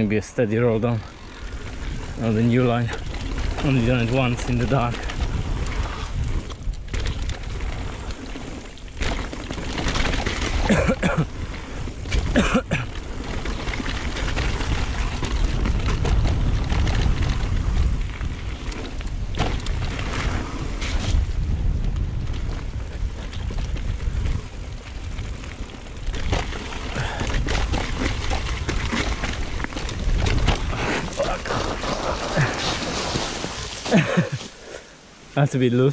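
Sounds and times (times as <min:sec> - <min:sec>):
wind rumble on microphone: 0:00.0 - 0:34.4
bike knocking and rattling: 0:00.0 - 0:34.6
bike tyres rolling over dirt: 0:00.0 - 0:35.9.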